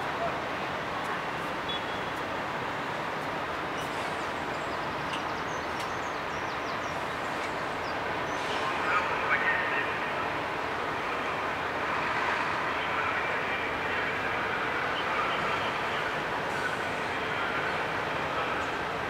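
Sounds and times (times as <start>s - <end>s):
vehicle traffic and machinery din: 0.0s - 19.0s.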